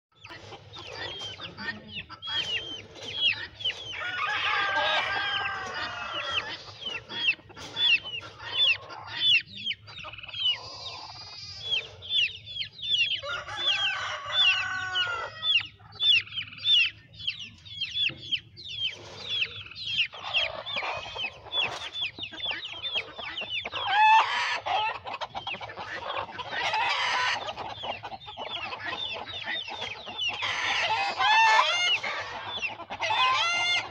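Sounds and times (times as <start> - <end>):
baby chicks peeping: 0.1 - 33.9
chickens clucking: 0.1 - 33.9.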